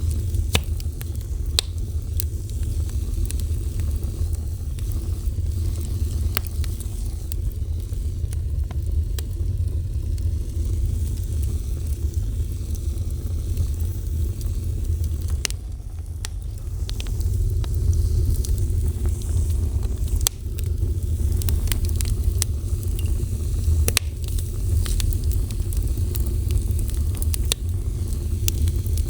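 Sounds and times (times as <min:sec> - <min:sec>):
sharp pops of fire: 0:00.0 - 0:29.0
wood fire crackling: 0:00.0 - 0:29.0.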